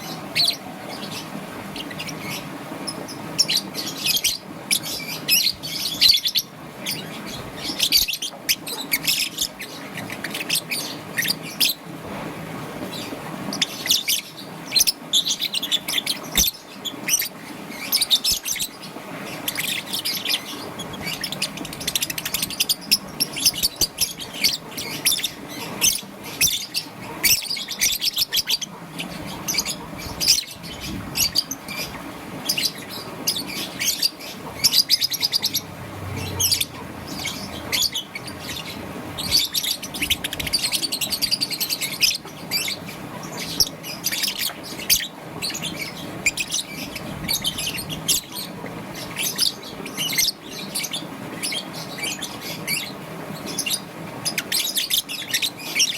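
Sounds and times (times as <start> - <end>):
lovebird chirping: 0.0 - 11.8, 13.0 - 55.9.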